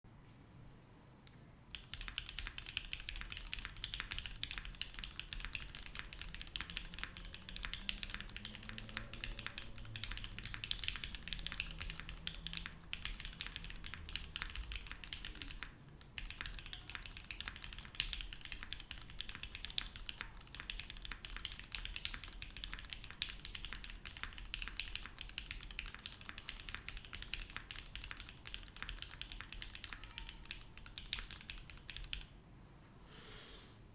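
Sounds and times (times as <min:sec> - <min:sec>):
mechanical keyboard typing: 0:01.7 - 0:32.4.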